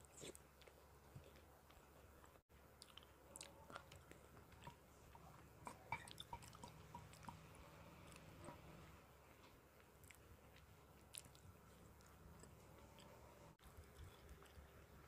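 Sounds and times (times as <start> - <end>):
close chewing: 0.0 - 8.8, 9.4 - 15.0.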